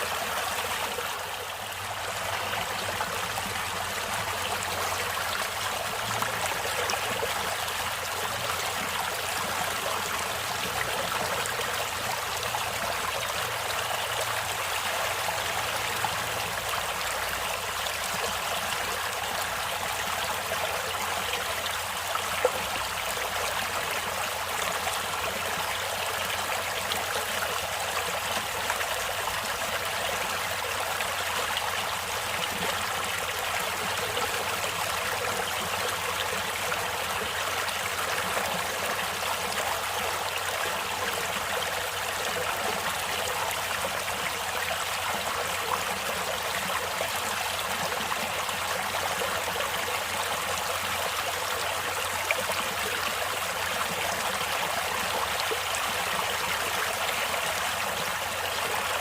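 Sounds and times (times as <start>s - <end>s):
stream water running over rocks: 0.0s - 59.0s.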